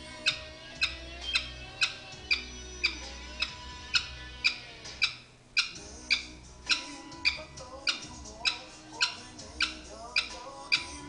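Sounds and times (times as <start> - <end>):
music with steady beat: 0.0 - 5.1, 5.7 - 11.0
sharp high squeak: 0.2 - 10.8.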